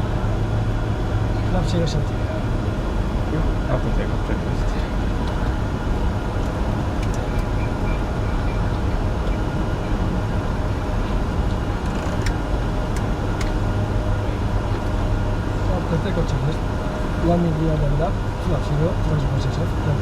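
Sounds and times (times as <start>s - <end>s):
aircraft cockpit low rumble: 0.0s - 20.0s.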